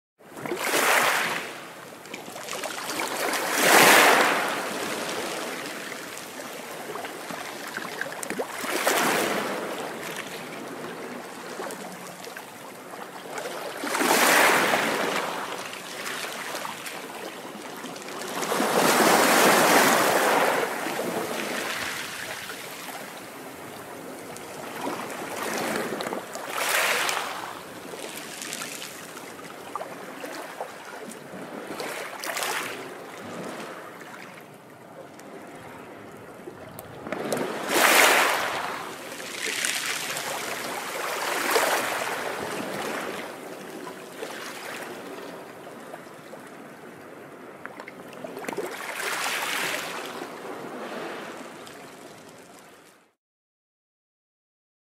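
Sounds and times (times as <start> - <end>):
waves breaking on beach: 0.3 - 34.5, 37.0 - 47.5, 48.1 - 52.0.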